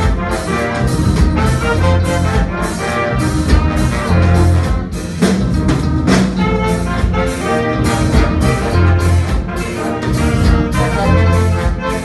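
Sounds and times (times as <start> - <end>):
live band with horn section: 0.0 - 12.0.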